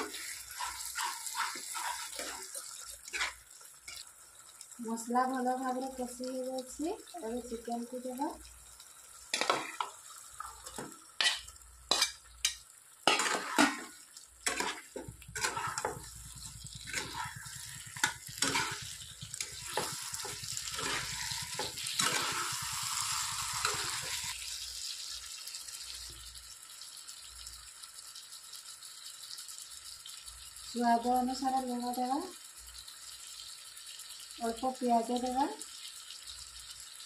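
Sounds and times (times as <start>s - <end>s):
food sizzling: 0.0s - 37.0s.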